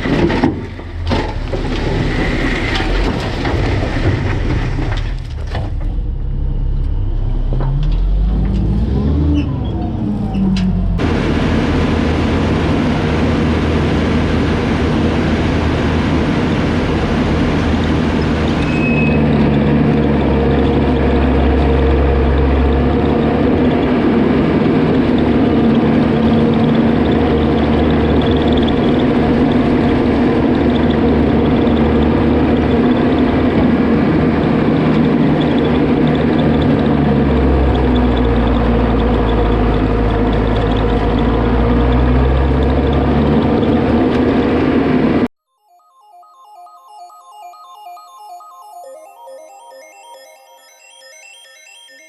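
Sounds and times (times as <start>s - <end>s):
vehicle engine humming: 0.0s - 45.3s.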